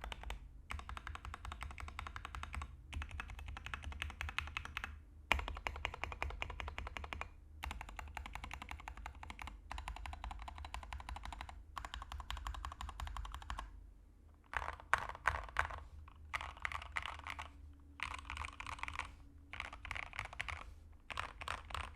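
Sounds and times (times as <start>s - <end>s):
mechanical keyboard clacking: 0.0s - 13.7s, 14.5s - 21.9s.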